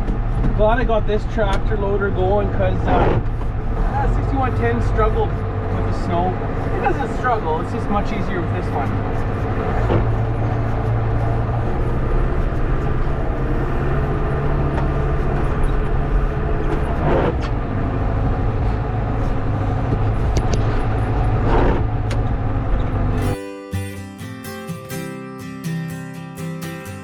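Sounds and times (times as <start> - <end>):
tractor diesel engine under load: 0.0 - 23.4.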